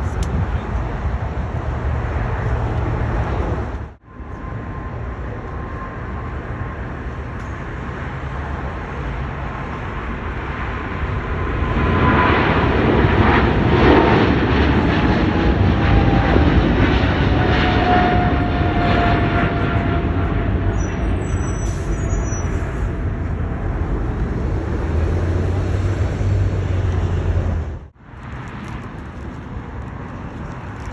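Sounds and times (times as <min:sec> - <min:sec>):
jet airliner engine noise: 0:00.0 - 0:30.9.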